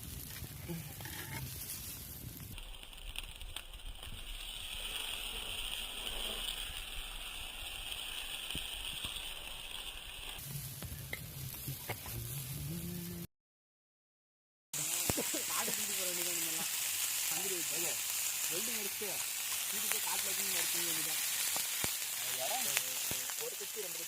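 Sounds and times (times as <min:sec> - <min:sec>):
chicken sizzling over fire: 0:00.0 - 0:13.3, 0:14.8 - 0:24.0.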